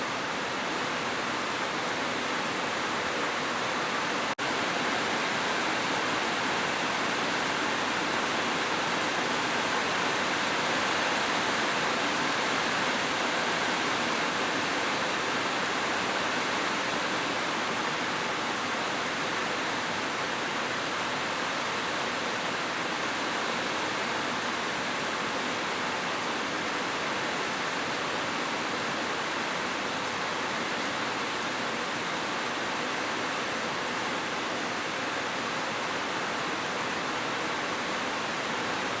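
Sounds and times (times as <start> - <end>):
heavy rain: 0.0 - 39.0.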